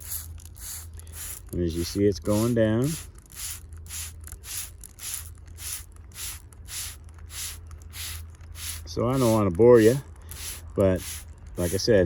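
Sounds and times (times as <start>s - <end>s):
sprayer hissing in short squirts: 0.0s - 11.8s
steady low hum: 0.0s - 12.0s.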